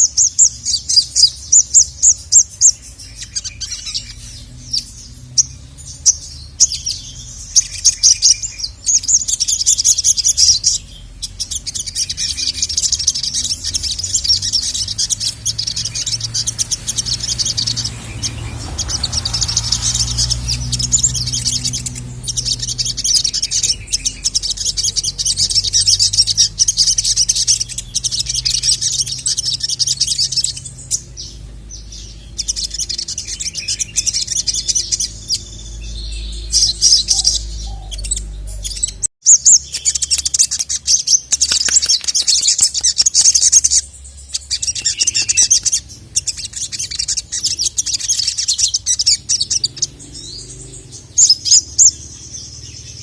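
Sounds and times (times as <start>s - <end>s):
bird chirps and trills: 0.0s - 53.0s.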